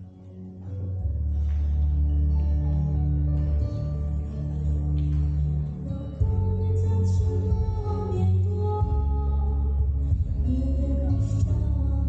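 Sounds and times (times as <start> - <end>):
instrumental music with low held notes: 0.0 - 12.0.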